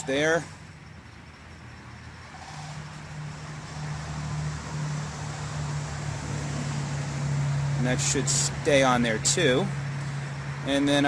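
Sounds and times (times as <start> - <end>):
low motor hum: 0.5 - 10.9.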